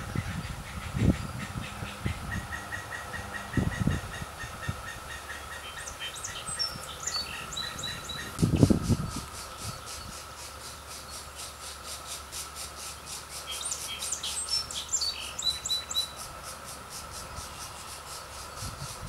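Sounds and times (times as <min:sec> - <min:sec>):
high pulsing bird call: 0:00.0 - 0:19.0
bird chirps: 0:00.2 - 0:19.0.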